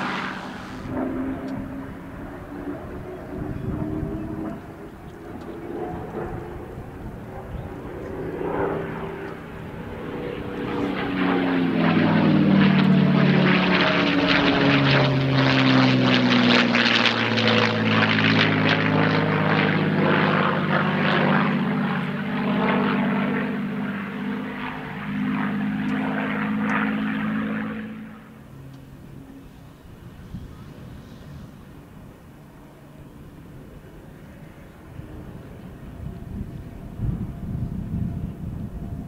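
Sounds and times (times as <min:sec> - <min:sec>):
propeller plane engine drone: 0:00.0 - 0:39.0.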